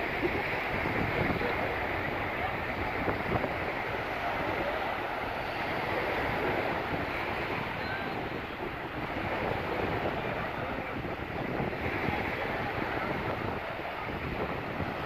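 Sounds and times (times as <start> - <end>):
waves washing on sand: 0.0 - 15.0
wind on microphone: 0.0 - 15.0.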